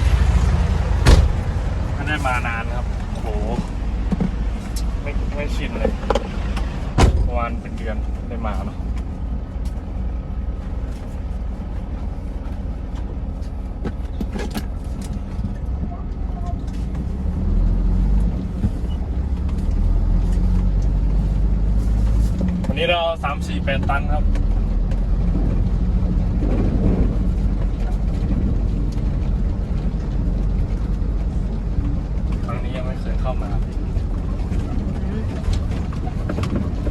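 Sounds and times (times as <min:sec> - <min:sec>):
dump truck engine rumble: 0:00.0 - 0:36.9.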